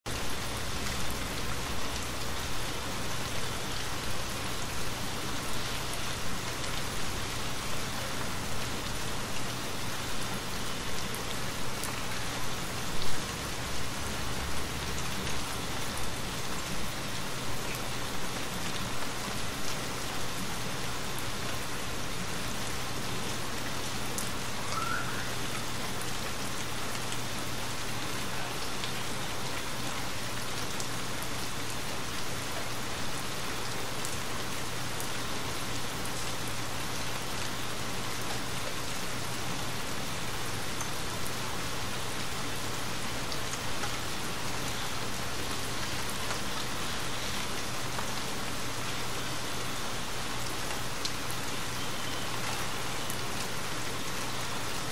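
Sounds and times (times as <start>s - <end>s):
rain falling: 0.1s - 54.9s.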